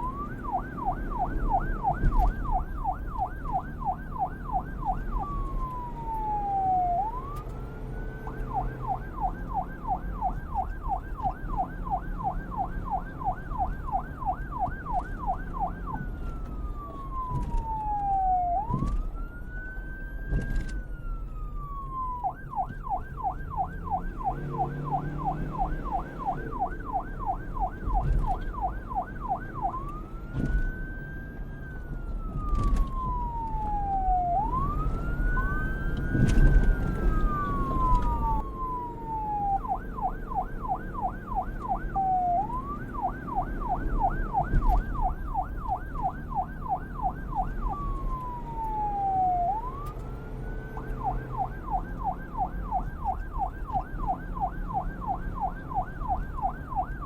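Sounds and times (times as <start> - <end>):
low traffic rumble: 0.0 - 57.0
police car siren yelp and wail: 0.0 - 57.0.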